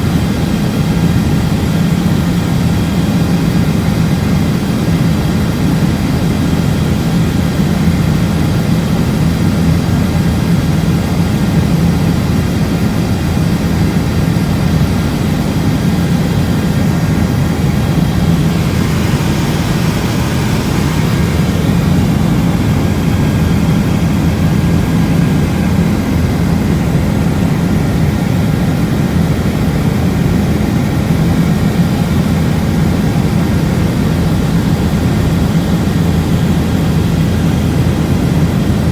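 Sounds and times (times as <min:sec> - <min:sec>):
helicopter rotor and turbine drone: 0:00.0 - 0:38.9.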